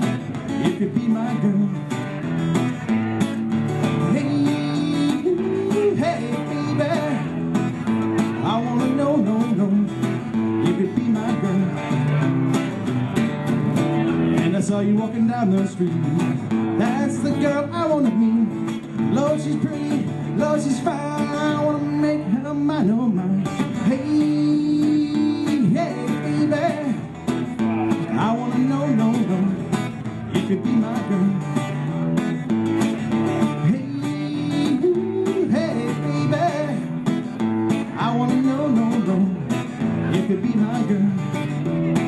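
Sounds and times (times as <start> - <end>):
man singing: 0.0 - 12.7, 13.7 - 42.0
strummed acoustic guitar: 0.0 - 42.0.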